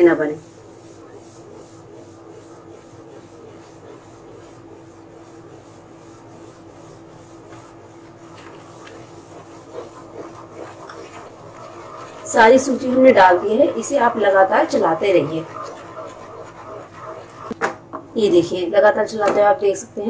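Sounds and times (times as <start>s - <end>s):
wooden spatula scraping a pan: 0.0s - 17.8s
steady low hum: 0.0s - 20.0s.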